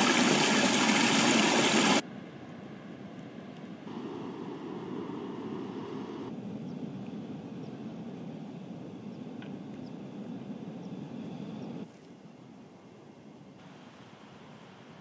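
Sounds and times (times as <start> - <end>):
low rushing outdoor ambience: 0.0 - 15.0.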